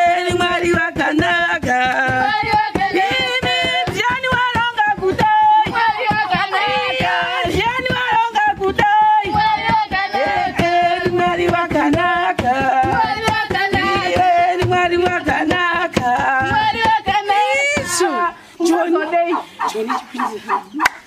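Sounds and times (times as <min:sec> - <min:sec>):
hand-beaten wooden drum: 0:00.0 - 0:21.0
voices singing together: 0:00.0 - 0:21.0.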